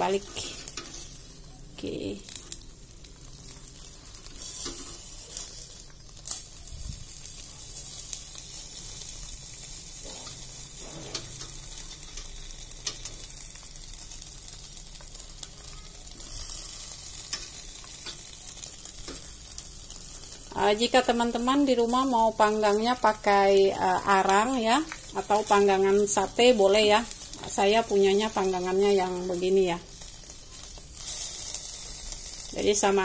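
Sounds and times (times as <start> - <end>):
fish parcels sizzling on grill: 0.0 - 33.0.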